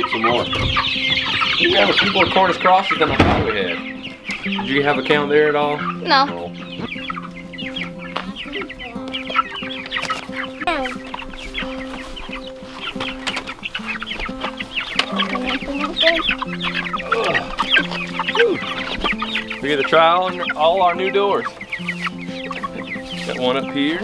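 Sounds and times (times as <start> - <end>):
background music of slow held notes: 0.0 - 24.0
chicks peeping and chirping: 0.0 - 24.0.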